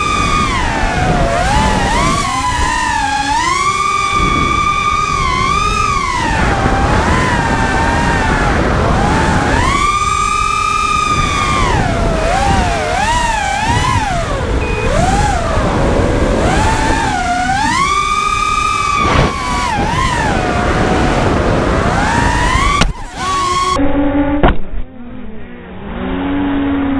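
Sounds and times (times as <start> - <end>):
quadcopter motors whining: 0.0 - 26.8.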